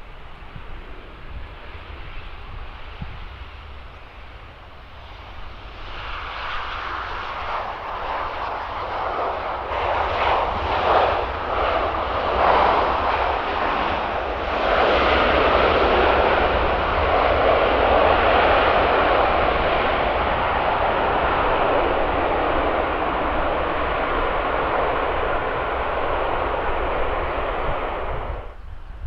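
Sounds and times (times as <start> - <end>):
aircraft engine rushing: 0.0 - 29.0.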